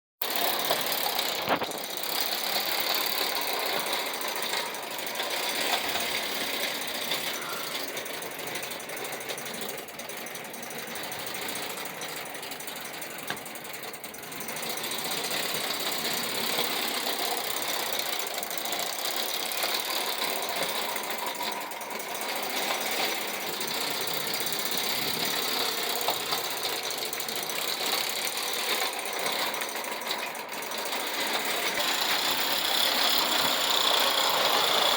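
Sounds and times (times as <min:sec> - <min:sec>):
toy train rattling on track: 0:00.2 - 0:34.9.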